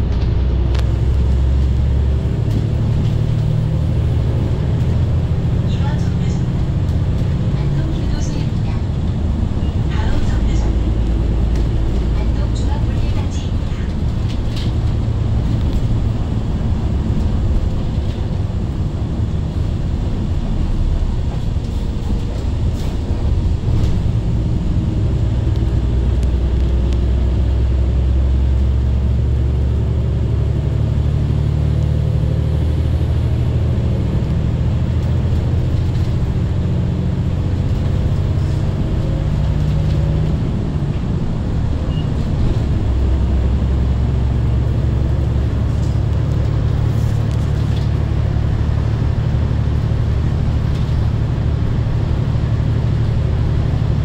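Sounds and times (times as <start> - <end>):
bus engine drone: 0.0 - 54.0
tyre and road noise: 0.0 - 54.0.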